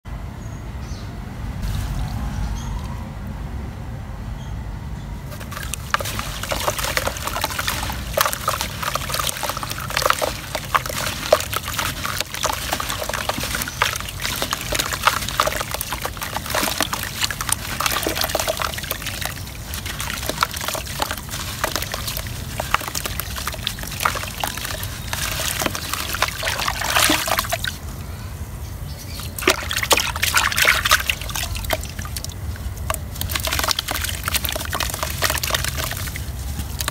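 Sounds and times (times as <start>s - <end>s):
wet soil crackling apart: 5.3s - 27.8s, 29.2s - 36.9s
water sloshing and dribbling: 5.3s - 27.9s, 29.1s - 36.9s.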